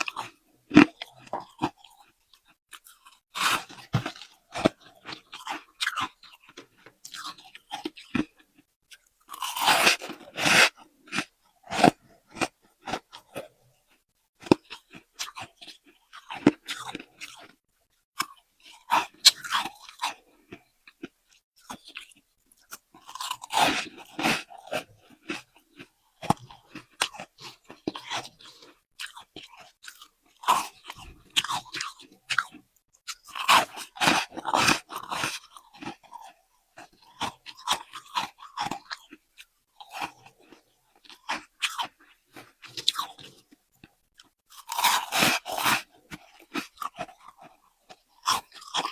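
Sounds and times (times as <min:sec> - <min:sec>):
person chewing crunchy frost: 0:00.0 - 0:48.9.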